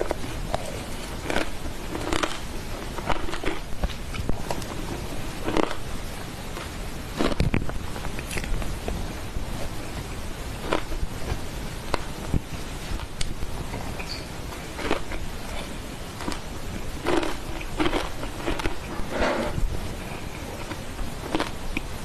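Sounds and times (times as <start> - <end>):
low hiss: 0.0 - 22.0.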